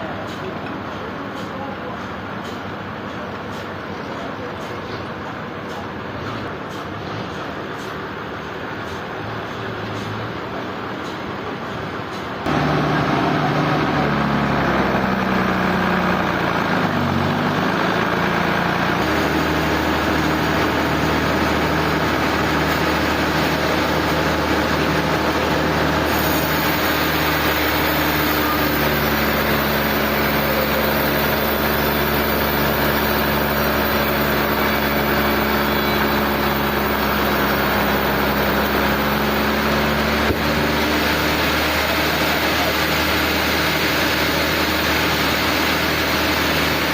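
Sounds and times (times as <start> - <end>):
sawmill machinery droning: 7.4 - 46.9.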